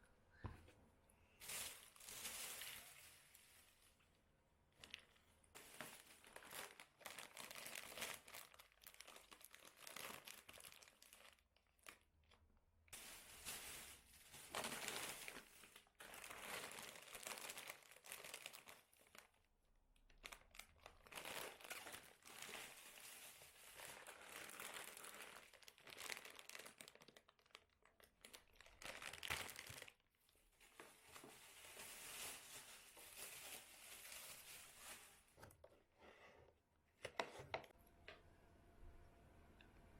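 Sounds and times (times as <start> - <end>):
crinkling and rustling by hand: 0.3 - 38.2.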